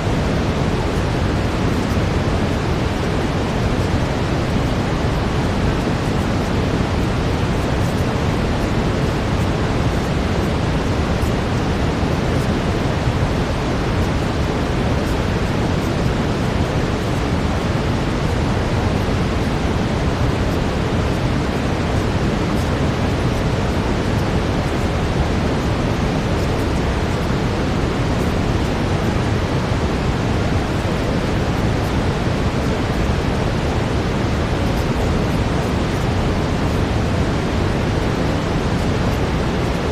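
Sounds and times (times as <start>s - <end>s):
brown noise deep hiss: 0.0s - 39.9s.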